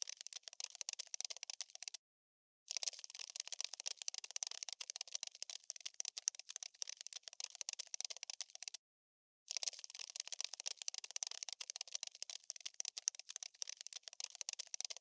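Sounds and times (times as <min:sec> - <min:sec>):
dry clicking and scratching: 0:00.0 - 0:02.0, 0:02.7 - 0:08.8, 0:09.5 - 0:15.0.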